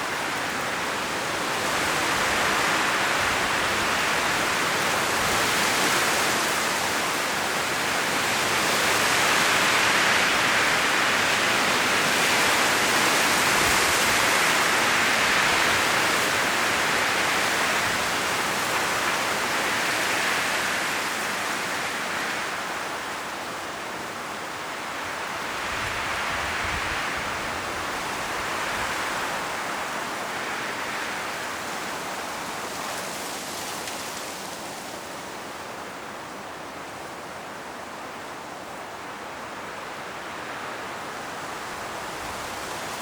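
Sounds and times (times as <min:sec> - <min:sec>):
wind rustling tree leaves: 0:00.0 - 0:43.0.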